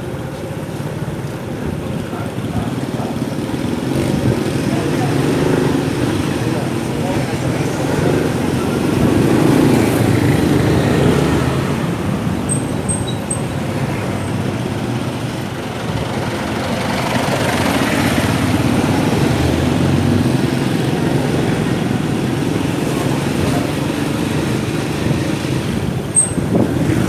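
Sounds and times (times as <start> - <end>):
motorcycle engine running: 0.0 - 27.0
road and traffic noise: 0.0 - 27.0.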